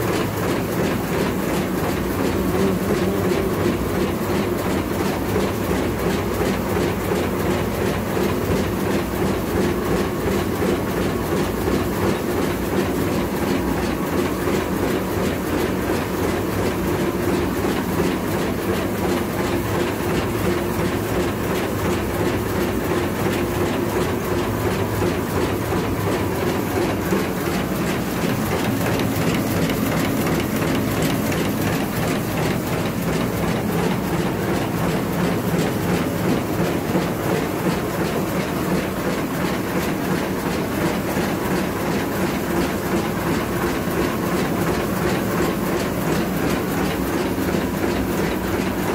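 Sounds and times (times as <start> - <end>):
machine hum: 0.0 - 48.9
machine rapid mechanical clatter: 0.0 - 48.9.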